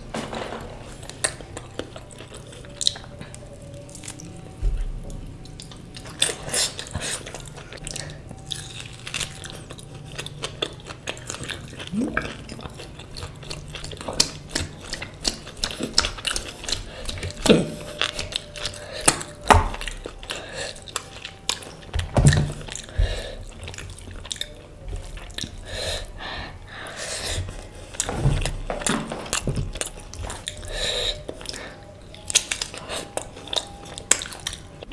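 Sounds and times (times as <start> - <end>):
wet chewing and mouth smacks: 1.1 - 4.5, 5.4 - 26.2, 26.8 - 34.9.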